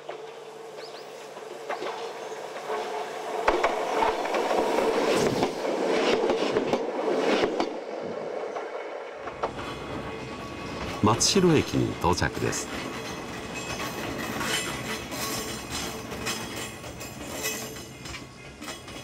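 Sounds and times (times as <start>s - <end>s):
train wheels clacking on rail joints: 0.0s - 7.8s, 8.5s - 11.0s, 12.6s - 19.0s
electric train passing: 0.0s - 19.0s.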